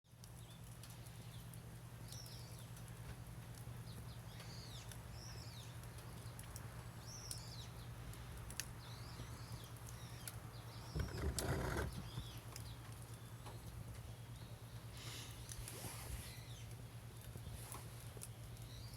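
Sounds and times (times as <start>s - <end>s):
wood fire popping: 0.1s - 15.8s, 16.6s - 18.9s
small birds chirping: 0.1s - 18.9s.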